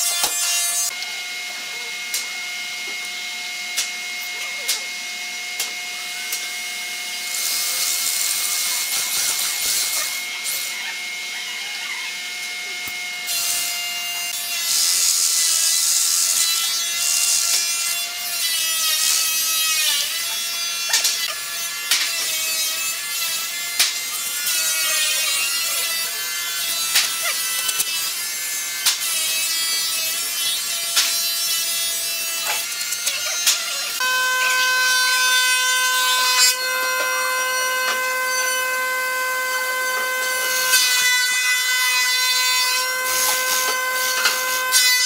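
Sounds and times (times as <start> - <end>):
electric drill boring into wood: 0.0 - 1.4, 2.0 - 45.0.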